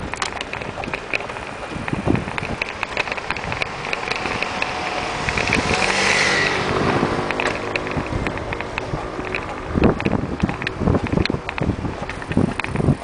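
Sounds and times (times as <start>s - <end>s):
motor scooter passing: 0.0s - 13.0s
rattling clicks: 0.0s - 13.0s.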